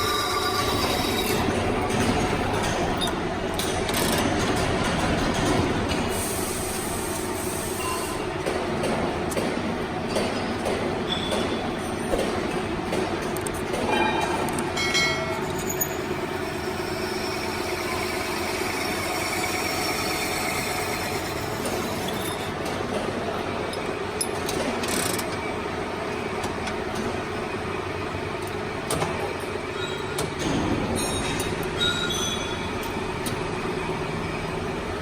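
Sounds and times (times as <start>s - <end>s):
industrial machine drone: 0.0s - 35.0s.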